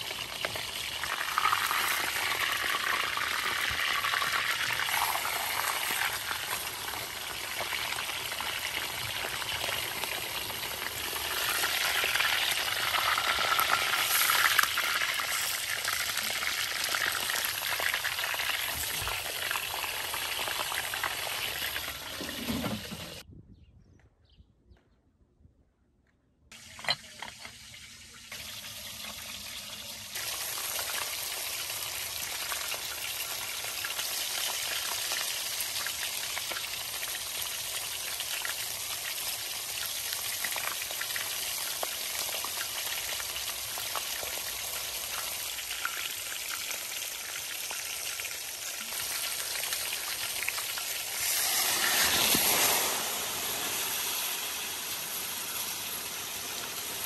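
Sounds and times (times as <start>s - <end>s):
meat sizzling with small pops: 0.0s - 21.9s, 30.2s - 57.0s.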